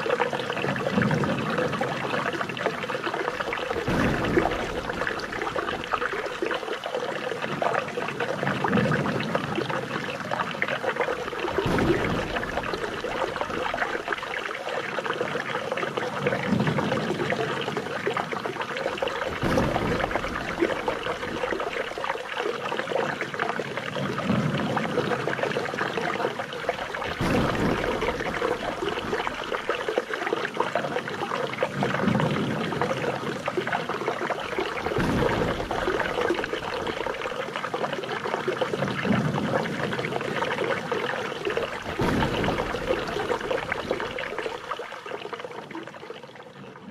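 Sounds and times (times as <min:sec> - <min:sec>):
water trickling and pouring: 0:00.0 - 0:46.9.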